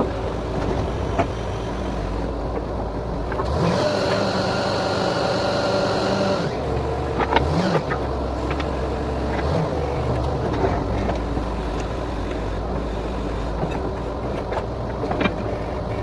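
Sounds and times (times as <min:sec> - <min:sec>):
drilling rig engine droning: 0:00.0 - 0:16.0.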